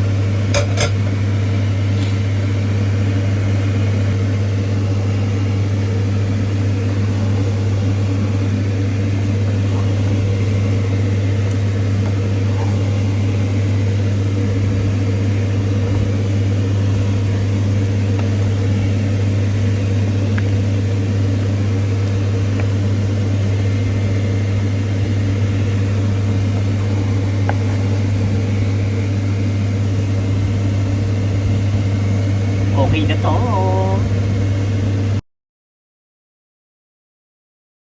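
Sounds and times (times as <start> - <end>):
low machine hum: 0.0 - 35.2.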